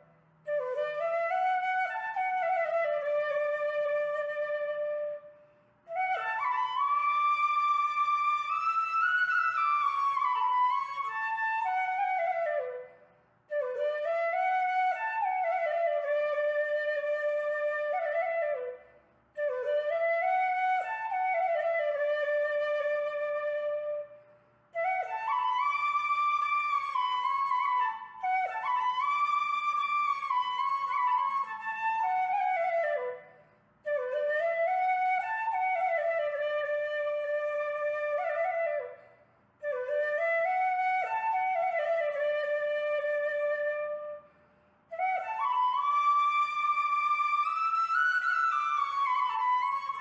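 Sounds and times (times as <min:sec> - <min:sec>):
flute melody: 0:00.0 - 0:05.3, 0:05.9 - 0:12.9, 0:13.5 - 0:24.2, 0:24.8 - 0:44.2, 0:44.9 - 0:50.0.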